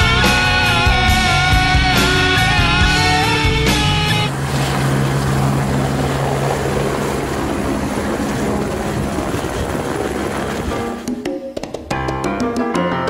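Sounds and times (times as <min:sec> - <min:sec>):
helicopter lifting off: 0:00.2 - 0:11.3.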